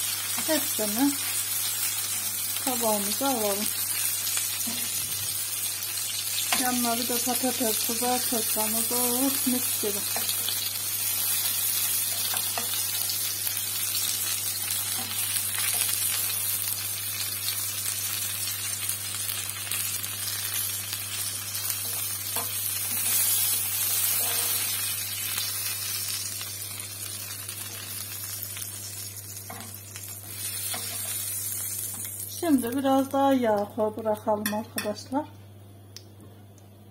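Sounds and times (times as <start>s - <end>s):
chicken sizzling in hot oil: 0.0s - 33.2s.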